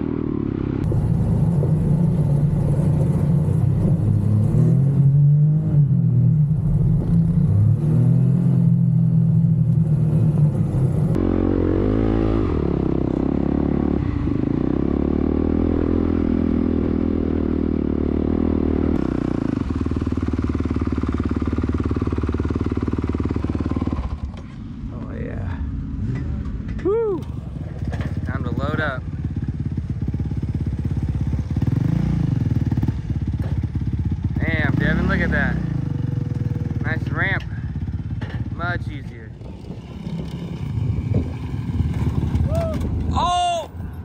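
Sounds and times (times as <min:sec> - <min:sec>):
dirt bike engine at low speed: 0:00.0 - 0:44.0.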